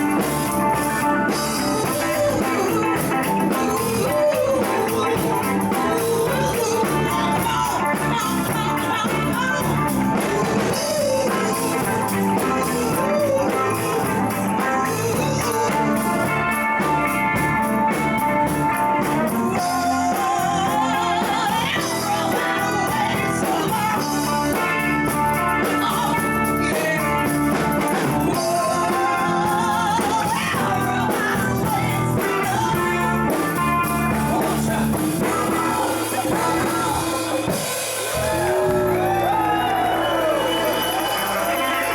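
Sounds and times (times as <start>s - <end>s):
live band playing rock music: 0.0s - 41.9s.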